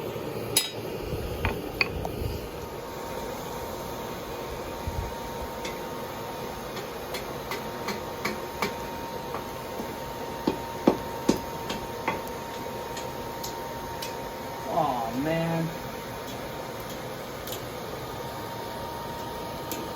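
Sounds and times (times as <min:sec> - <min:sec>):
steady mechanical hum: 0:00.0 - 0:19.9.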